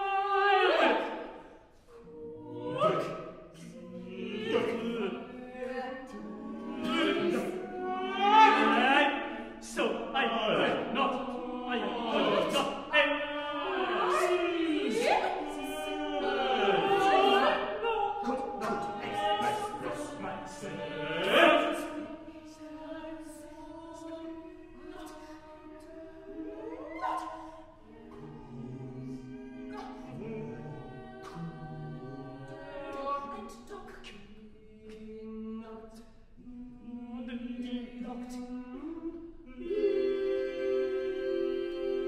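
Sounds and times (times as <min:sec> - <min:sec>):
a cappella ensemble singing: 0:00.0 - 0:42.0.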